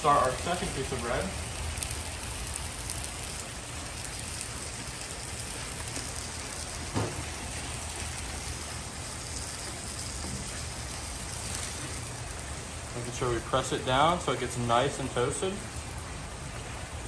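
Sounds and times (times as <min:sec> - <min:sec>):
sizzling on a hot griddle: 0:00.0 - 0:17.0.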